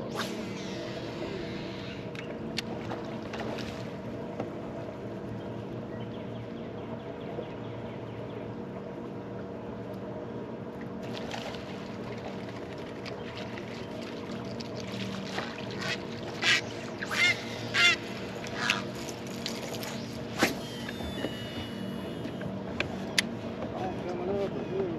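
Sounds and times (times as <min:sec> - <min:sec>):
electric trolling motor hum: 0:00.0 - 0:23.7.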